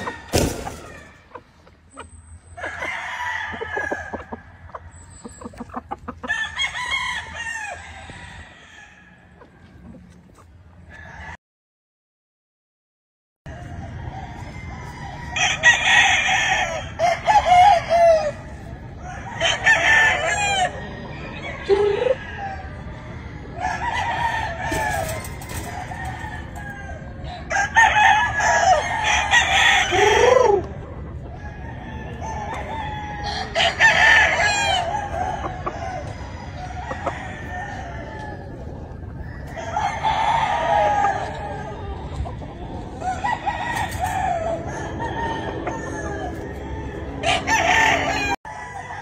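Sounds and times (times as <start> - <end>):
roosters crowing: 0.0 - 10.1, 13.5 - 49.0.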